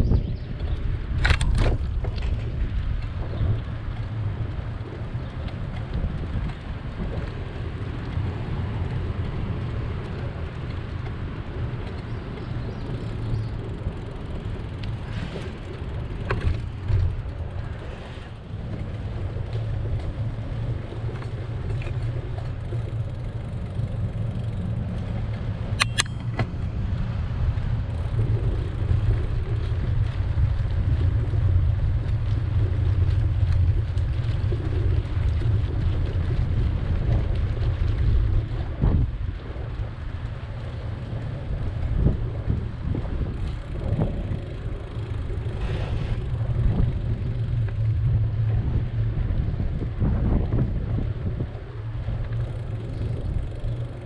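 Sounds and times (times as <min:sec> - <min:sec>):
road and traffic noise: 0:00.0 - 0:54.0
wind rumbling on microphone: 0:00.0 - 0:54.0.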